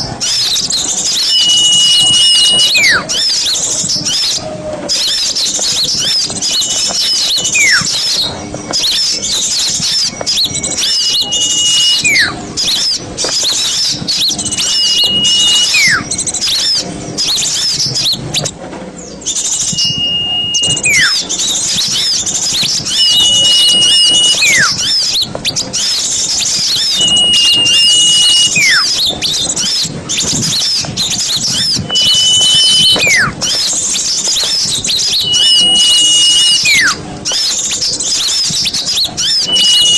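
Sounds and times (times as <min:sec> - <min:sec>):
whistled call with downward slide: 0:00.0 - 0:18.5, 0:19.2 - 0:39.9
small birds chattering: 0:00.0 - 0:39.9.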